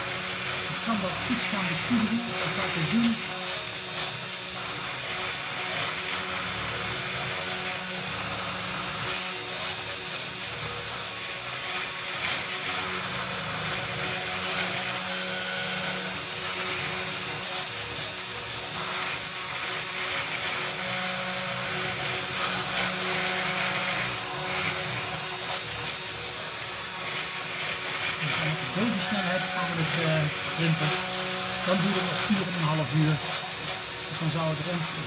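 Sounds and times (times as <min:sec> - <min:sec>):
bit cutting into wood: 0:00.0 - 0:09.8, 0:11.4 - 0:35.0
router spindle motor whining: 0:00.0 - 0:35.0.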